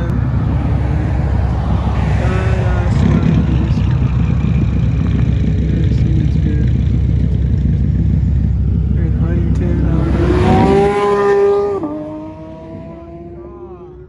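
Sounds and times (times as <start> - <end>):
car engine low drone: 0.0 - 14.0
road noise: 0.0 - 14.0.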